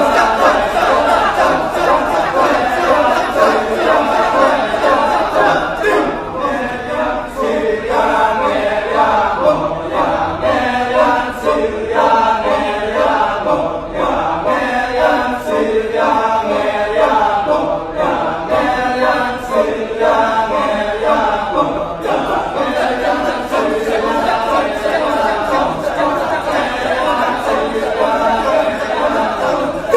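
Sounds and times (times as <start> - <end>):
chorus of voices chanting: 0.0 - 29.9.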